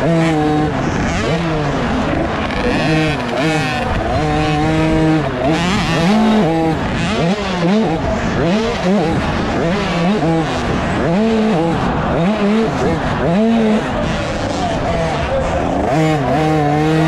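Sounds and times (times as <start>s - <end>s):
motocross bike engine revving: 0.0s - 17.0s
other motorbike engines: 0.0s - 17.0s.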